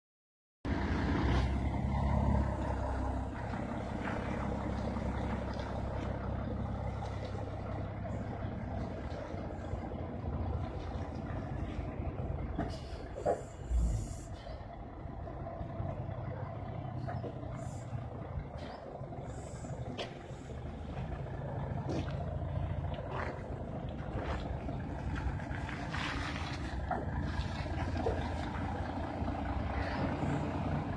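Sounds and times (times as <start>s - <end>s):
bus diesel engine running: 0.7s - 30.9s.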